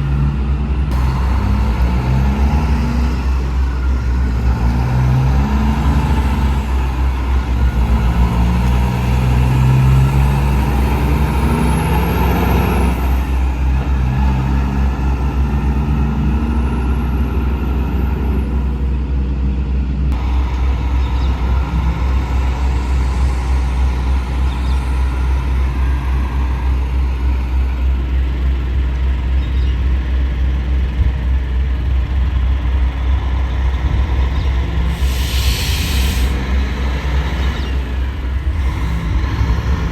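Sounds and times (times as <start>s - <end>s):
diesel truck engine drone: 0.0s - 39.9s
low rumble of traffic: 0.0s - 39.9s.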